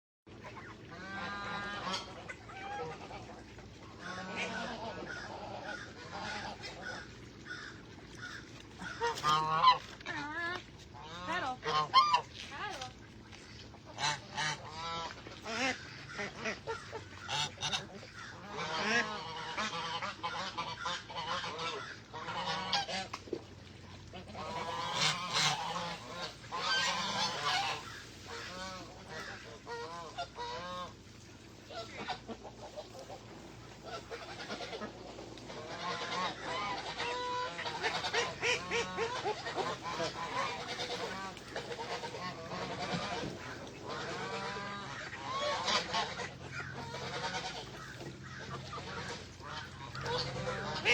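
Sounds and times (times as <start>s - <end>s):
geese honking: 0.5s - 3.4s, 4.0s - 10.3s, 11.0s - 12.3s, 13.9s - 23.1s, 24.0s - 31.0s, 31.6s - 50.9s.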